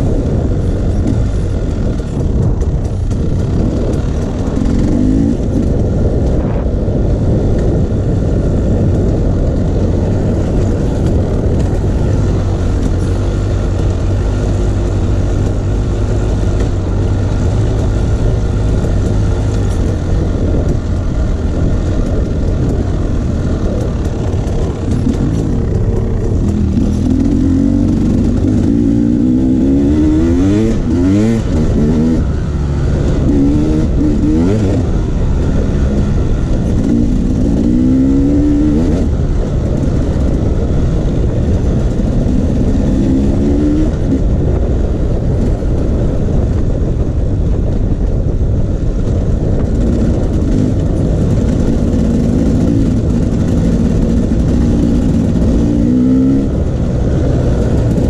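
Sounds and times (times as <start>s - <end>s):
off-road engine revving: 0.0s - 46.7s, 48.9s - 58.0s.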